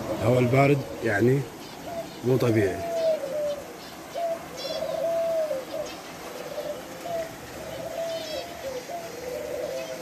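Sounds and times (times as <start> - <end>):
doves cooing: 0.0 - 10.0.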